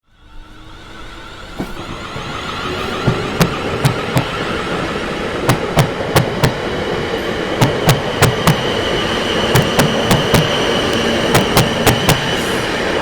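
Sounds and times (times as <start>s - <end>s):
high-pitched squeal: 0.0s - 13.0s
train rushing rumble: 0.0s - 13.0s
train wheels clacking over rail joints: 1.6s - 12.7s.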